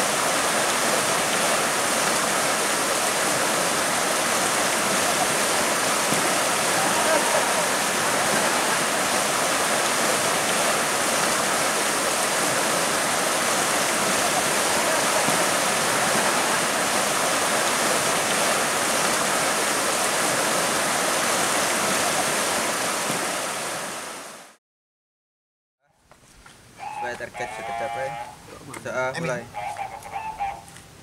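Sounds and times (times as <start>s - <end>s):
flowing river water: 0.0s - 24.6s, 26.8s - 30.6s.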